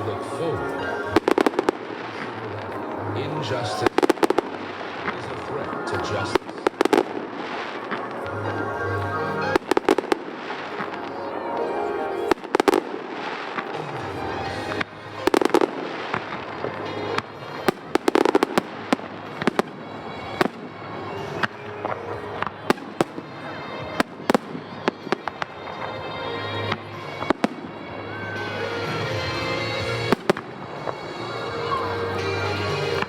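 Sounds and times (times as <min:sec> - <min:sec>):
fireworks bangs: 0:00.0 - 0:33.0
fireworks crackling: 0:00.0 - 0:33.0
music: 0:00.0 - 0:33.0.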